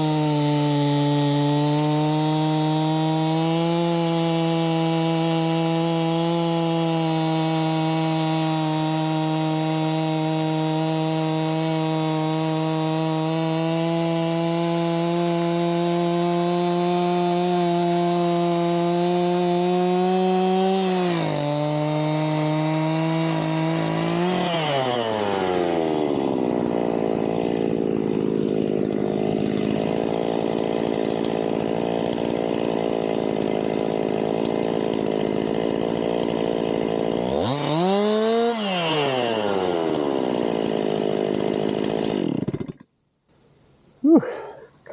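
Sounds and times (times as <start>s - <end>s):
chainsaw cutting then idling: 0.0s - 43.0s, 44.0s - 44.9s.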